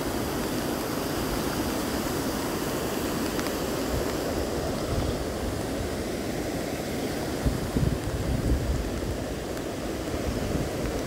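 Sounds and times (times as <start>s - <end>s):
mountain stream rushing: 0.0s - 11.0s
small waterfall cascading: 0.0s - 11.0s.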